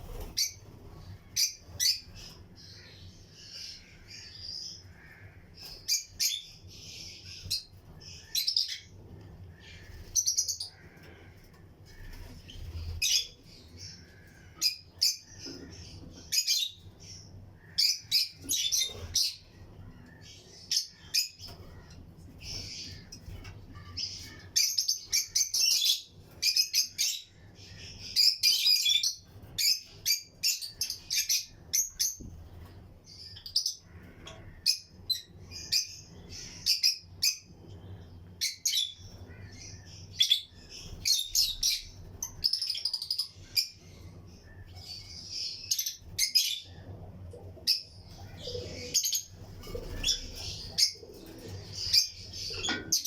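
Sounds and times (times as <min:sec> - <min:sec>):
lovebirds chirping: 0:00.0 - 0:53.0.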